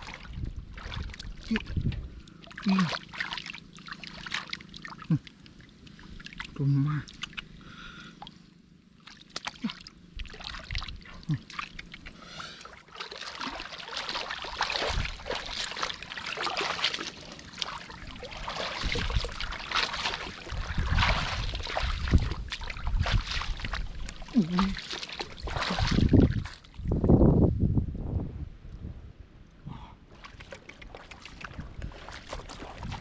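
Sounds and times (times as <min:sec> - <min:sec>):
muddy water sloshing and splashing: 0:00.0 - 0:27.0, 0:30.1 - 0:33.0.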